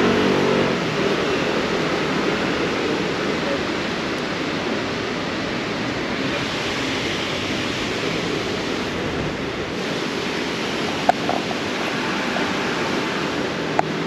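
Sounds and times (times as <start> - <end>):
city street ambience: 0.0 - 14.0.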